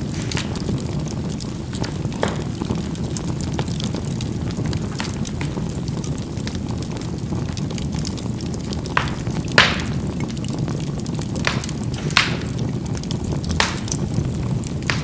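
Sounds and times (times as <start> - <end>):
charcoal burning rumble: 0.0 - 15.0
charcoal popping: 0.0 - 15.0.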